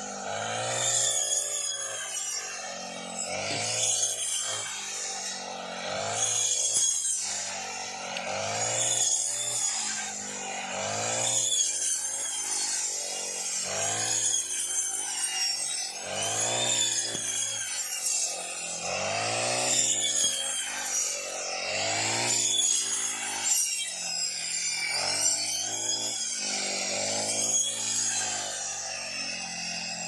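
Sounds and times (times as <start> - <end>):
blade rasping through stalks: 0.0 - 30.0
brush cutter engine revving: 0.0 - 30.0.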